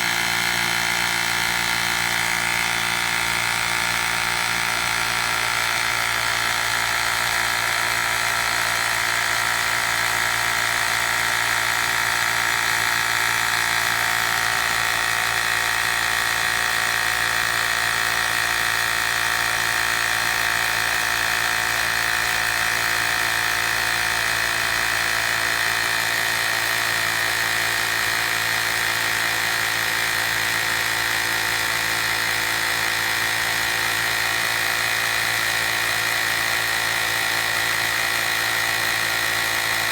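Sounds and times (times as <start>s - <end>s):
tyre inflator compressor whining: 0.0s - 39.9s.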